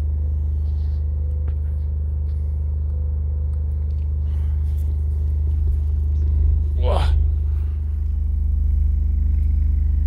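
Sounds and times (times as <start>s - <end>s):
subwoofer deep hum: 0.0s - 10.0s.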